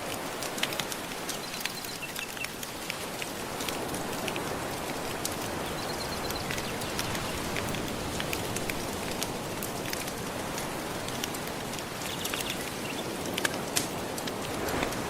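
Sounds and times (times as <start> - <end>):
gentle ocean waves: 0.0 - 15.0
wood fire crackling: 0.0 - 15.0.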